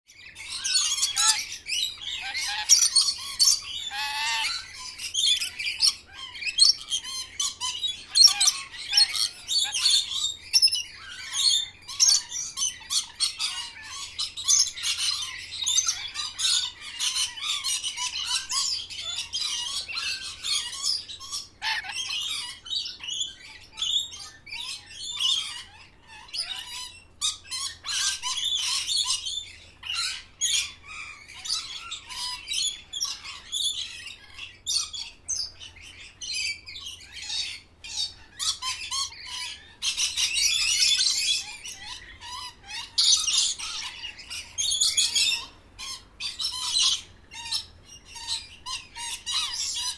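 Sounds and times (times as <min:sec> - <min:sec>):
birds chirping and squawking: 0:00.1 - 0:49.9.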